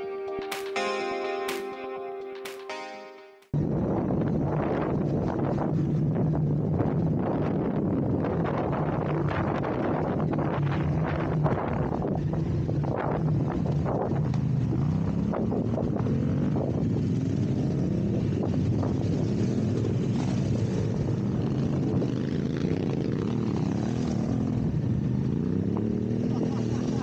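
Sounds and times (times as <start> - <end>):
motorcycle engine revving: 4.0 - 27.0.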